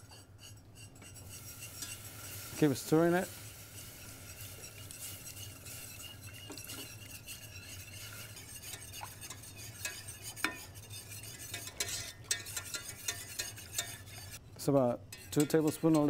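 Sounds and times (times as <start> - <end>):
whisk scraping a metal saucepan: 0.0 - 16.0.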